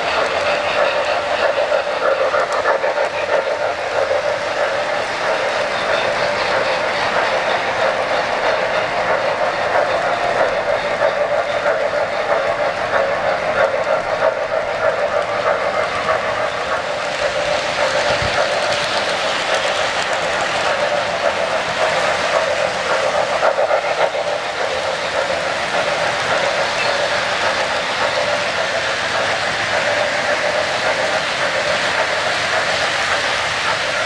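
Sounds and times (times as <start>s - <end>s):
metal wheels rattling on rails: 0.0s - 34.0s.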